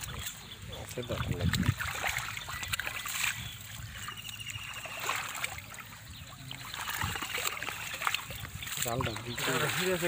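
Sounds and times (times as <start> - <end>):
muddy water sloshing and splashing: 0.0 - 10.0.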